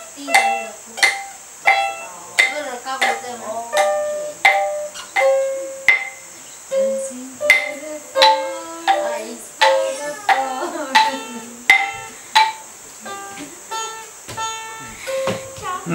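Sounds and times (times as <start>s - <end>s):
plucked lute melody: 0.0s - 15.9s
wooden xylophone notes: 0.0s - 15.9s.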